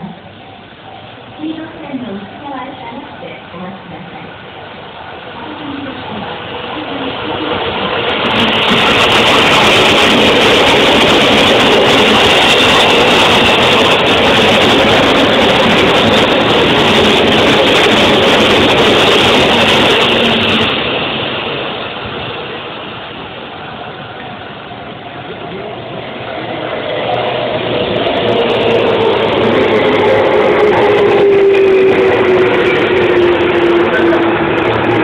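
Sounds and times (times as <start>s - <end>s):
electric train running: 0.0s - 35.0s.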